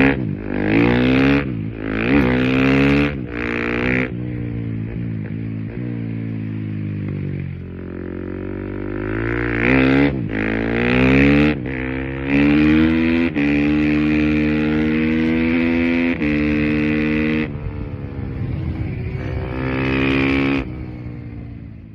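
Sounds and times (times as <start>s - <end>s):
motorcycle accelerating hard: 0.0s - 21.9s.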